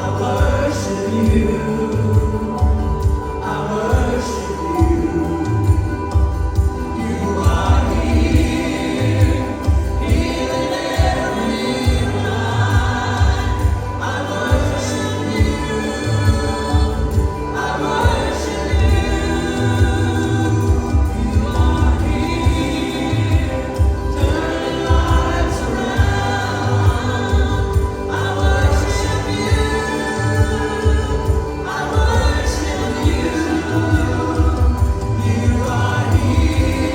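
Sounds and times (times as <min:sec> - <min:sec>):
band with steady bass beat: 0:00.0 - 0:36.9
choir and congregation singing: 0:00.0 - 0:36.9.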